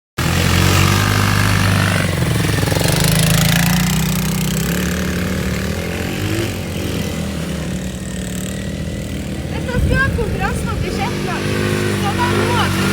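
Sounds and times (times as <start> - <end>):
atv engine running: 0.2 - 12.9.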